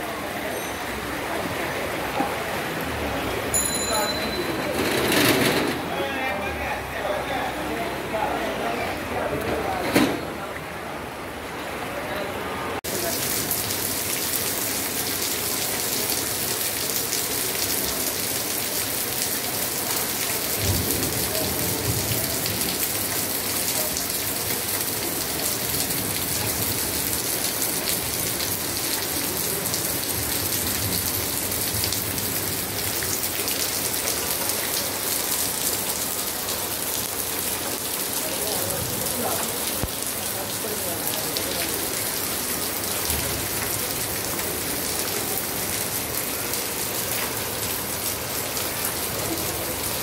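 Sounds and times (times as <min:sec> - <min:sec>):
heavy rain splashing into water: 0:00.0 - 0:50.0.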